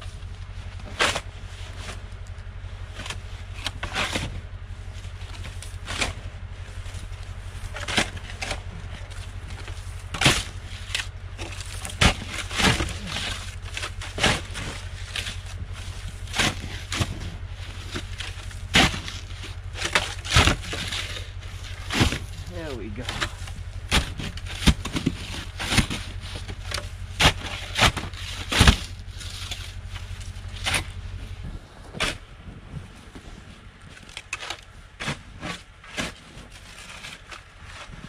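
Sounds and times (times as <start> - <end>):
low rumble: 0.0 - 35.4.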